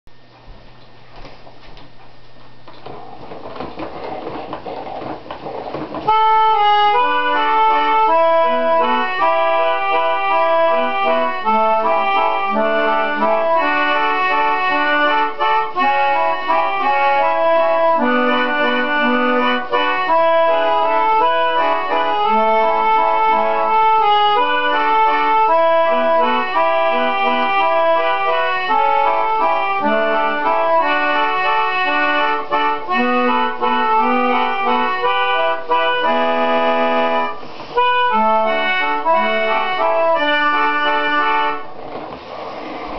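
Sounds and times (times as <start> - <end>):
hand-cranked reed organ music: 3.3 - 42.9.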